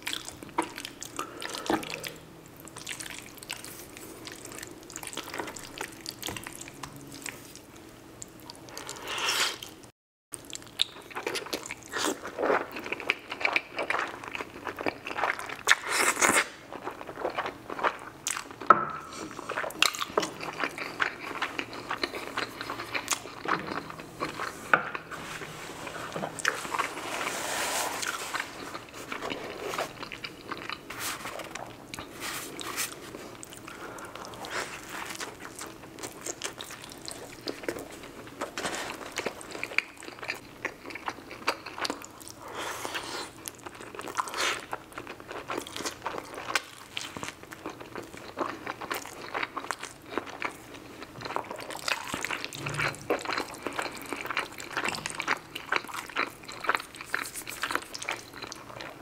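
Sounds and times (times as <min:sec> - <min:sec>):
close-miked wet chewing and crunching: 0:00.0 - 0:09.0, 0:10.4 - 0:27.3, 0:28.0 - 0:59.0.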